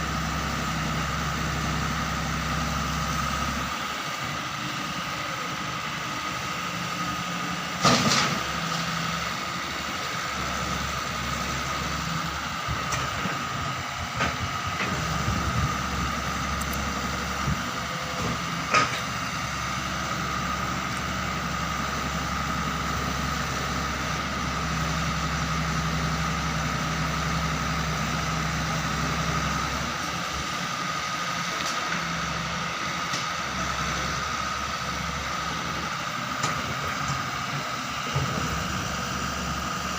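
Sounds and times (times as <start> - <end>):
diesel engine whining: 0.0 - 39.9.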